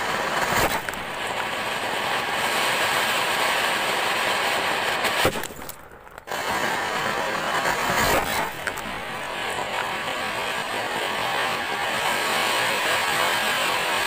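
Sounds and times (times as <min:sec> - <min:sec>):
firework fountains hissing: 0:00.0 - 0:14.0.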